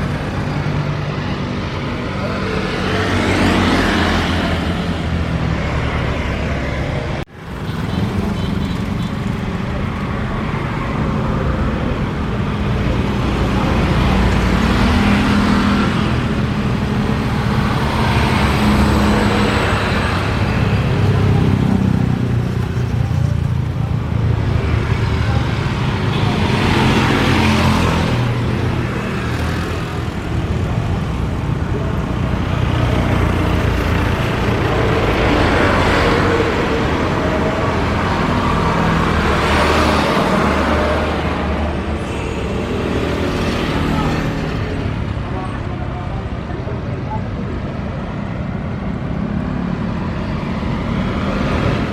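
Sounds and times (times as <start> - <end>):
road traffic rumbling: 0.0 - 51.9
vehicles passing: 0.0 - 51.9.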